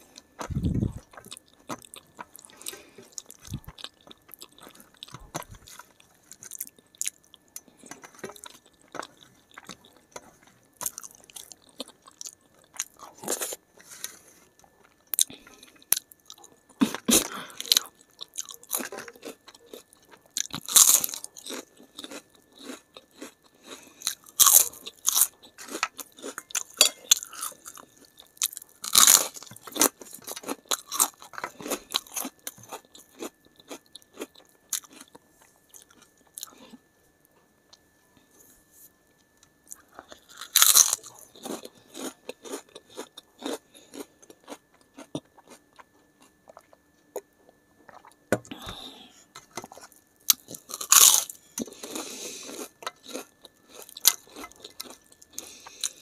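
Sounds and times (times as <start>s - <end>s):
soft chewing: 0.0s - 56.0s
crisp food crunching: 0.1s - 36.8s, 39.6s - 47.2s, 49.5s - 56.0s.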